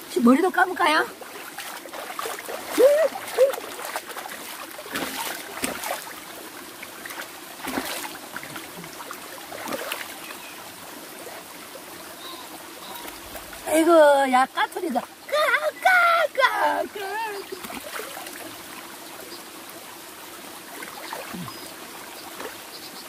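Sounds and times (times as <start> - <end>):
water splashing: 0.0 - 22.7
stream trickling over rocks: 0.0 - 23.0.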